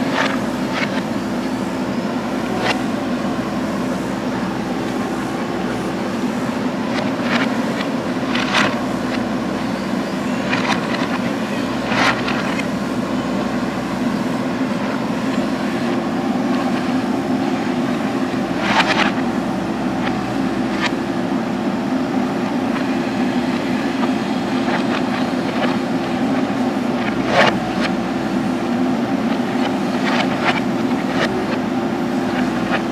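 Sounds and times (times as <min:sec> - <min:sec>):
diesel engine under load: 0:00.0 - 0:32.9.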